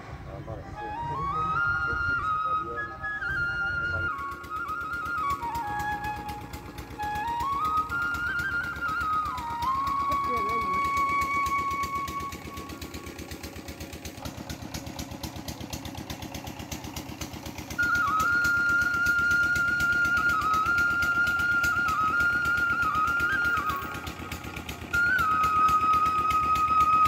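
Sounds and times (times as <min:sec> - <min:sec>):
flute-like background music: 0:00.0 - 0:27.0
small motorcycle engine idling: 0:00.0 - 0:27.0.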